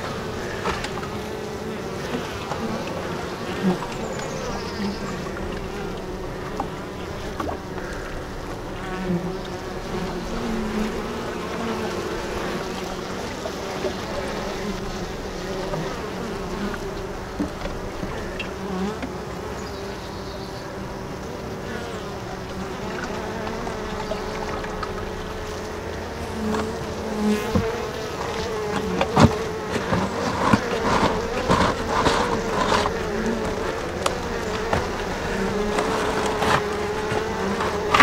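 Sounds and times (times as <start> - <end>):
bees buzzing: 0.0 - 38.0
single bee flying past: 0.0 - 38.0.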